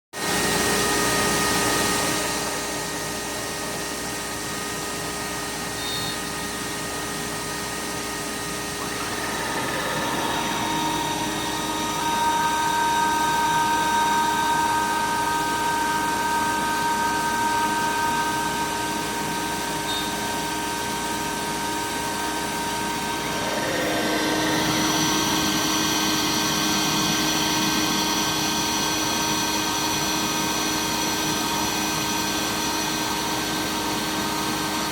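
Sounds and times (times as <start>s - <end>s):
router spindle whining: 5.2s - 34.9s.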